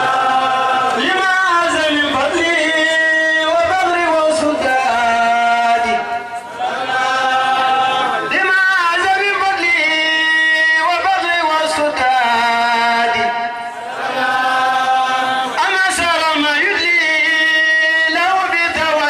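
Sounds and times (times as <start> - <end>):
man chanting devotional verses: 0.3 - 6.5, 7.5 - 13.8, 14.8 - 19.0.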